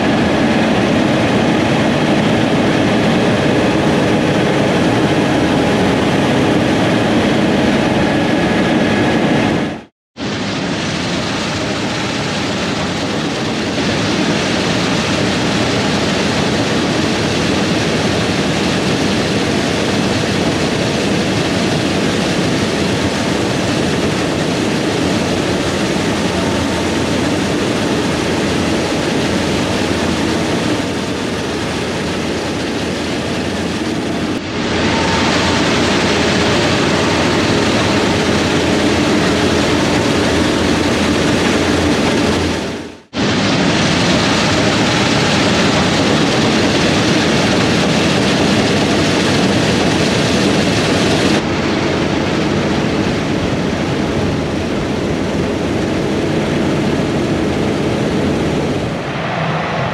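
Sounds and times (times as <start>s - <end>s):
heavy farm machinery running: 0.0s - 59.9s
steady hum tones: 0.0s - 59.9s.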